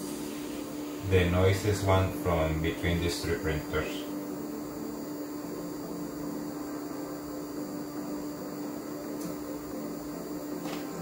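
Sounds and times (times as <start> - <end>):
printer cooling fan humming: 0.0 - 11.0.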